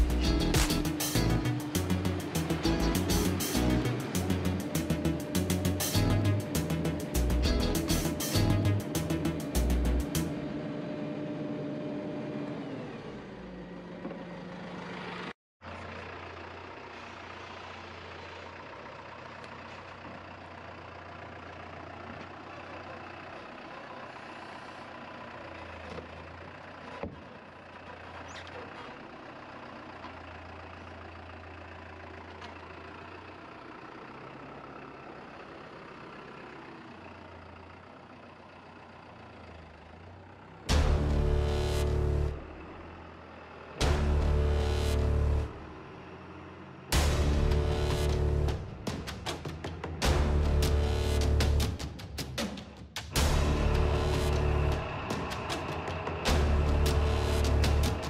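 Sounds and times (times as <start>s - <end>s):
tractor diesel engine running: 0.0s - 52.4s, 53.1s - 58.0s.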